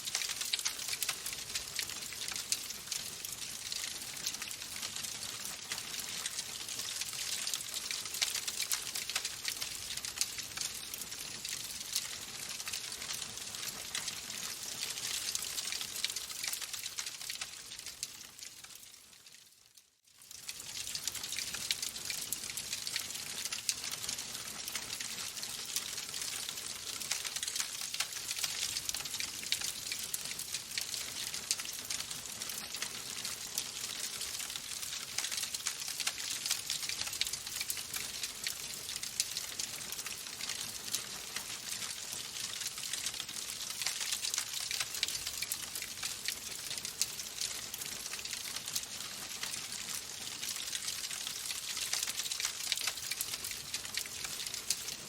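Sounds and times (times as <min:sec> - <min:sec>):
wood fire crackling: 0:00.0 - 0:19.4, 0:20.2 - 0:55.0.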